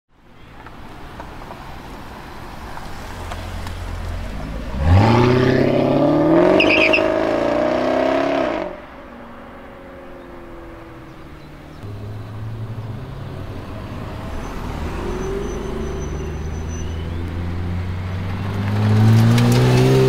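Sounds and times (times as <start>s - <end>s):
car engine accelerating: 1.1s - 9.0s, 9.6s - 20.0s.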